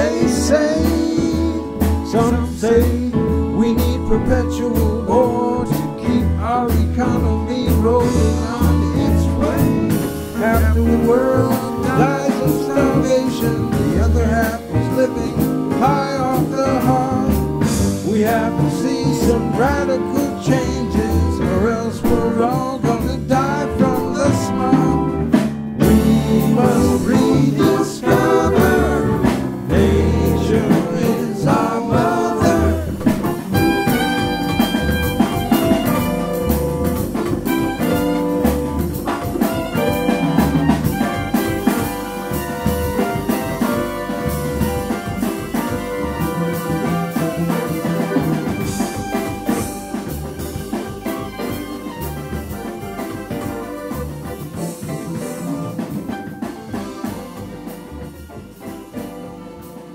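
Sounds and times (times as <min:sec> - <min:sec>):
full-band music with drum beat: 0:00.0 - 0:59.9.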